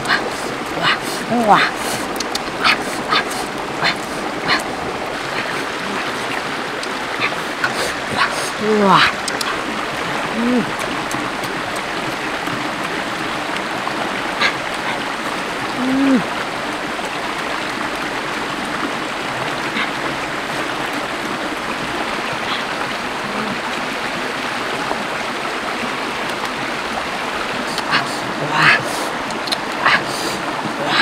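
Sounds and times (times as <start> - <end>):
stream running over stones: 0.0 - 31.0.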